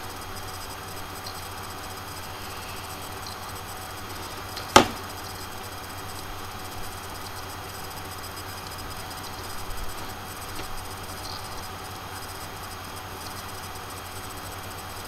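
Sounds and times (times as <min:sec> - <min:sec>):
background hiss: 0:00.0 - 0:15.0
low electrical hum: 0:00.0 - 0:15.0.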